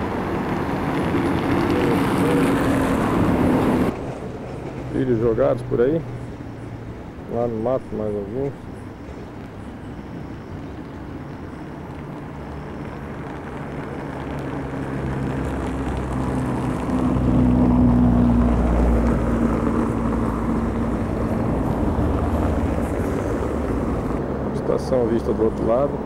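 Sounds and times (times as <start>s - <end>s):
engine passing by: 0.0s - 7.5s, 12.2s - 26.0s.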